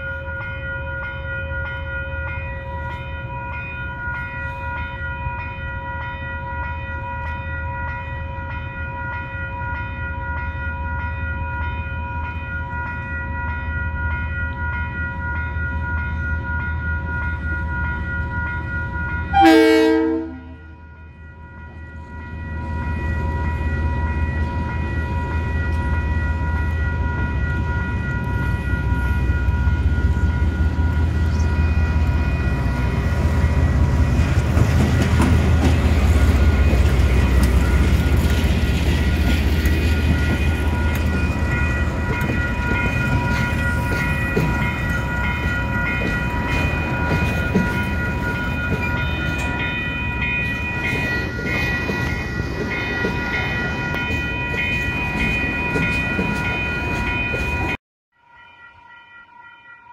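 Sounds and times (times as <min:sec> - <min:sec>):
crossing warning bells ringing: 0:00.0 - 0:59.9.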